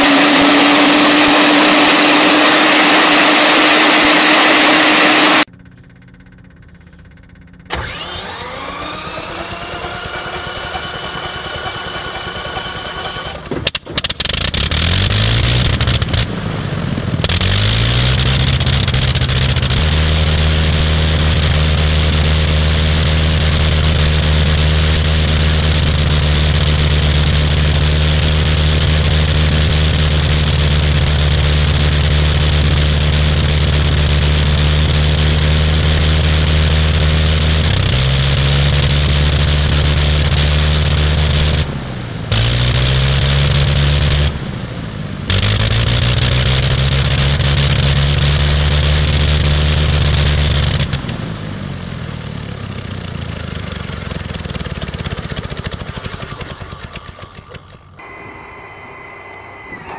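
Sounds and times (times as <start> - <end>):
rotary aero engine running: 0.0 - 59.9
starter whine: 0.0 - 59.9.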